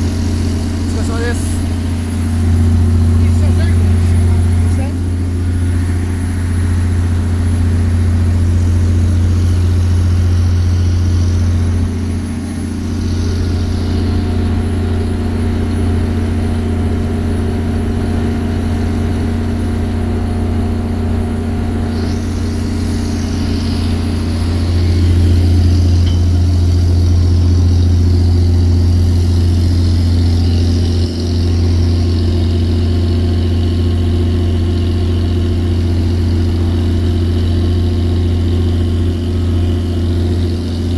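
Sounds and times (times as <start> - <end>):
boat diesel engine droning: 0.0 - 40.9.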